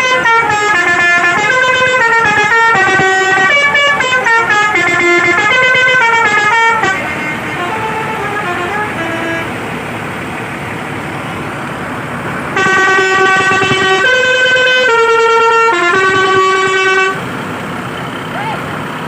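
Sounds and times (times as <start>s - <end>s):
musical bus horn tune: 0.0s - 17.5s.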